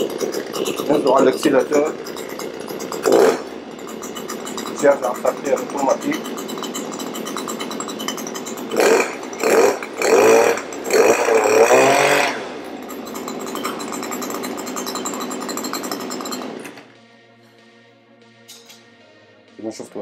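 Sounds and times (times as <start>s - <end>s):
small two-stroke engine revving: 0.0s - 16.9s.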